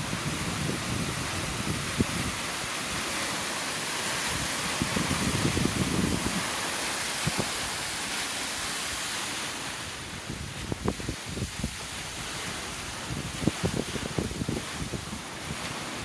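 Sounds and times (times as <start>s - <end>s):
wind buffeting microphone: 0.0s - 3.4s, 4.0s - 9.2s, 9.8s - 16.0s
water rushing over weir: 0.0s - 16.0s.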